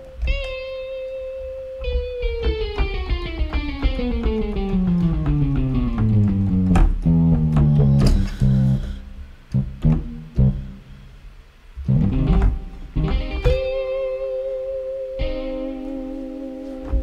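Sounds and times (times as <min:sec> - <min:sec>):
distorted blues guitar synth: 0:00.0 - 0:10.8, 0:11.8 - 0:17.0.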